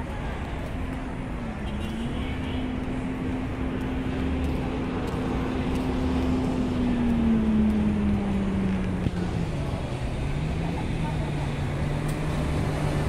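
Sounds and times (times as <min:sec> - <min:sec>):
vehicle engine running: 0:02.5 - 0:13.0.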